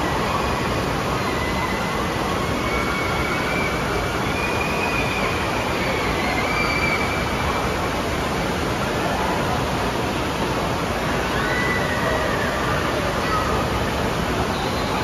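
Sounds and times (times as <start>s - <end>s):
water rushing from slide tube: 0.0s - 15.0s.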